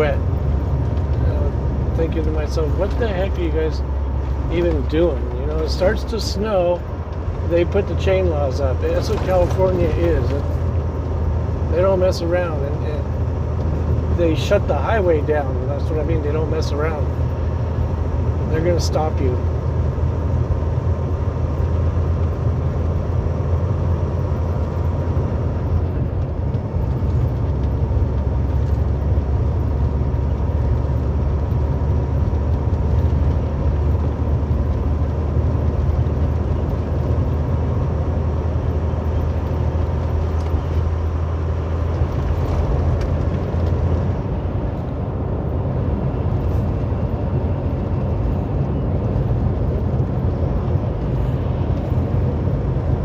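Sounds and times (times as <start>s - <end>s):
road noise: 0.0s - 53.0s
truck engine drone: 0.0s - 53.0s.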